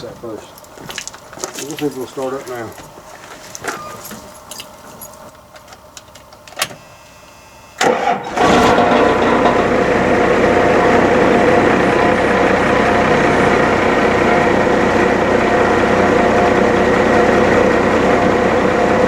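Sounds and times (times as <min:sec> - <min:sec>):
diesel engine cranking and idling: 0:00.0 - 0:19.0.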